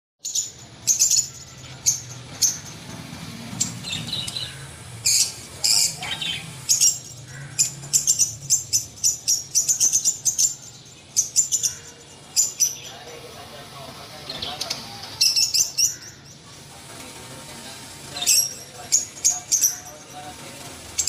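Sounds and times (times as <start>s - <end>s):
small birds chirping: 0.2s - 21.0s.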